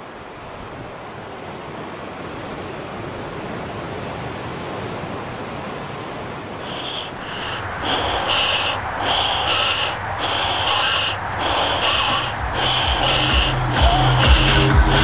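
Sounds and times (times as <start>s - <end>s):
waves breaking: 0.0s - 15.0s.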